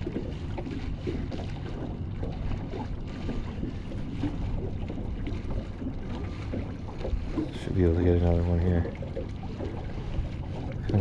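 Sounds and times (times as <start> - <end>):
waves slapping against boat hull: 0.0 - 11.0
wind buffeting microphone: 0.0 - 11.0.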